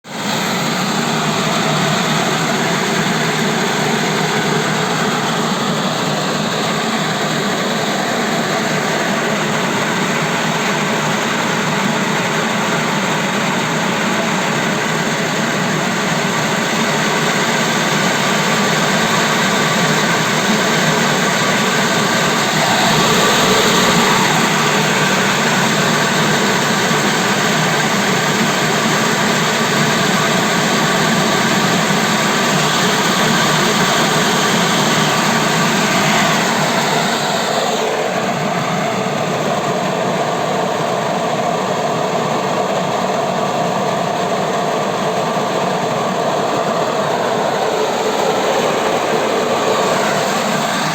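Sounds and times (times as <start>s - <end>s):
walnut-hulling machine running: 0.1s - 50.9s.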